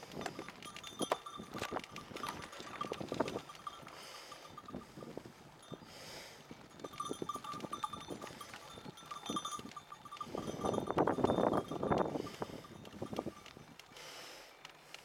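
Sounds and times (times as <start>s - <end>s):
sheep bells tinkling: 0.0s - 14.1s.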